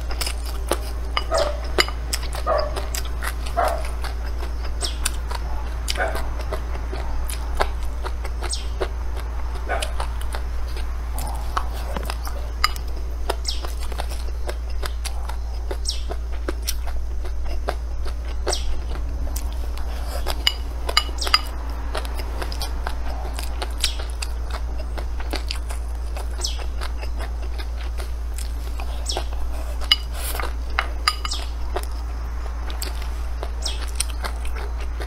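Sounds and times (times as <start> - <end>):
close-up eating sounds: 0.0 - 35.0
steady low hum: 0.0 - 35.0.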